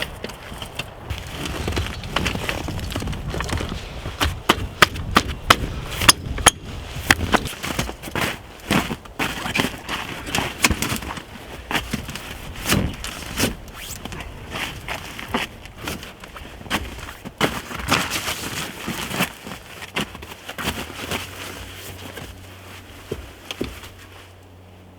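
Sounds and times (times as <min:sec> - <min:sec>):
wood cracking and splitting: 0:00.0 - 0:20.6.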